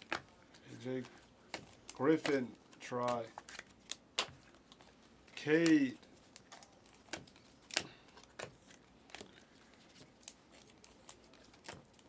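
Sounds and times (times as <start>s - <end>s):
trading cards flipping: 0.0s - 12.0s.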